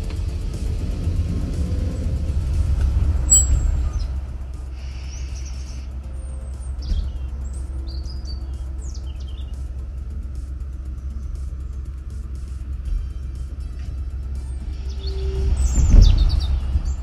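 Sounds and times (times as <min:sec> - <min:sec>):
steady low rumble: 0:00.0 - 0:17.0
small birds chirping: 0:03.2 - 0:17.0.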